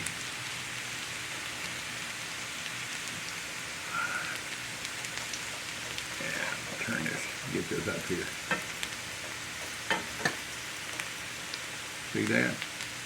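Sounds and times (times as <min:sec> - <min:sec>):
potatoes sizzling in oil: 0:00.0 - 0:13.0.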